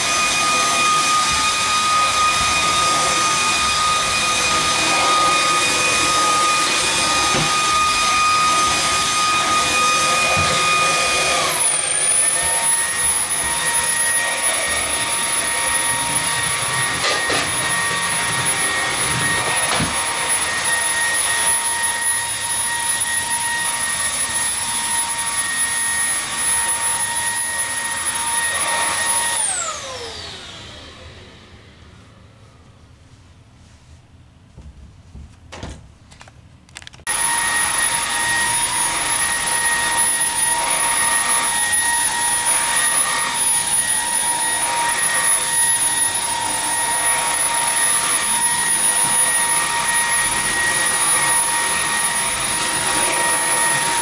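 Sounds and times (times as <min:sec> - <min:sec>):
vacuum cleaner whine: 0:00.0 - 0:33.8, 0:36.8 - 0:54.0.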